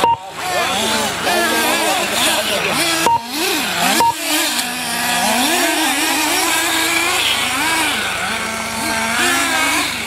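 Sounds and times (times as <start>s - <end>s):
model car engines revving: 0.0s - 10.0s.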